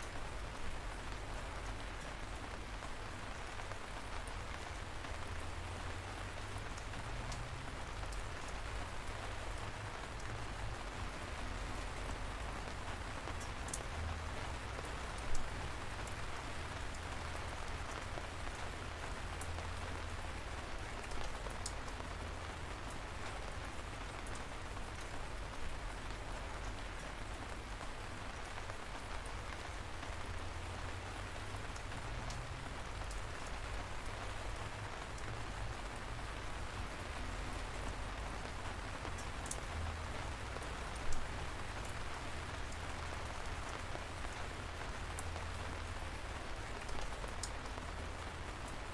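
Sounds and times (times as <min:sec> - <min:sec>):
light rain hissing: 0:00.0 - 0:48.9
raindrops ticking: 0:00.0 - 0:48.9.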